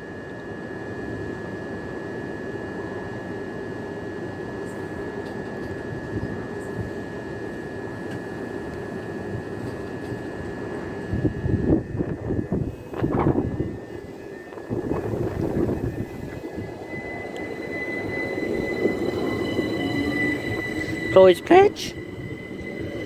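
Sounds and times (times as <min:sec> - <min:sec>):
electric train humming: 0:00.0 - 0:23.0
high-pitched whine: 0:00.1 - 0:23.0.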